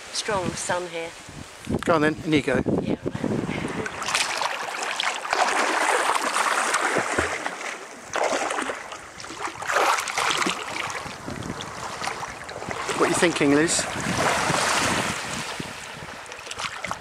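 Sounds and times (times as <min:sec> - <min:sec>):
seawater sloshing and splashing: 0:03.4 - 0:17.0.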